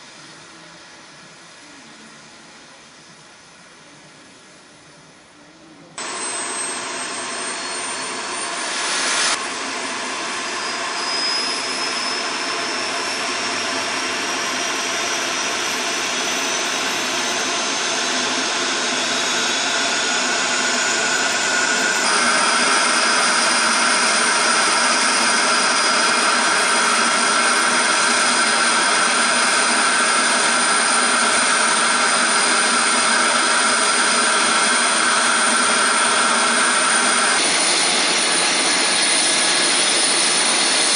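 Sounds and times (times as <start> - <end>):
high engine whine: 0.0 - 40.9
jet engines running: 6.0 - 40.9.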